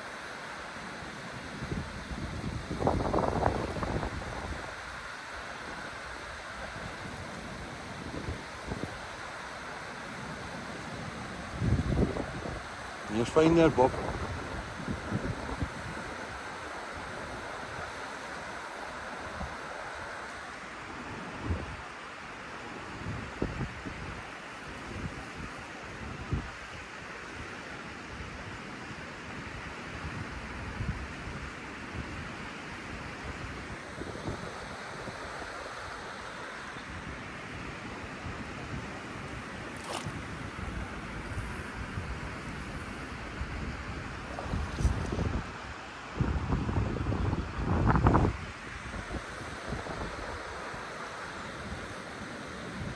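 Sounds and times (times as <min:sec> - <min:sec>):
flowing river water: 0:00.0 - 0:52.9
wind on microphone: 0:01.3 - 0:09.2, 0:10.7 - 0:20.4, 0:21.1 - 0:21.9, 0:22.8 - 0:26.8, 0:29.4 - 0:52.9.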